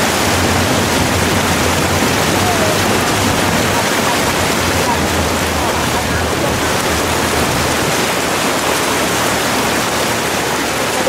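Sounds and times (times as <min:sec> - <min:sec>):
vehicle rushing through floodwater: 0:00.0 - 0:11.0.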